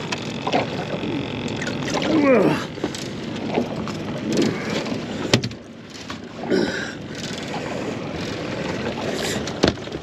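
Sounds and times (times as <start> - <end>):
water noise: 0.0 - 10.0
wind: 0.0 - 10.0.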